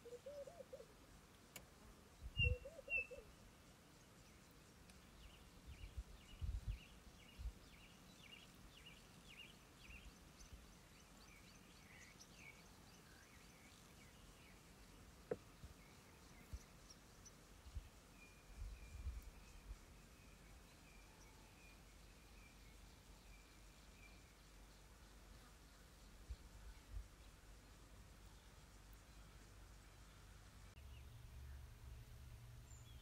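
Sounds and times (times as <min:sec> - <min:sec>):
bird chirping: 0:00.0 - 0:00.9, 0:02.2 - 0:33.0.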